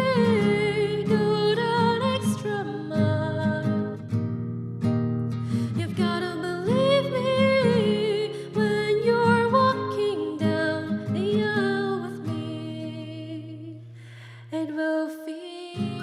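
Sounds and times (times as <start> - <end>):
pop song with guitar and bass: 0.0 - 16.0.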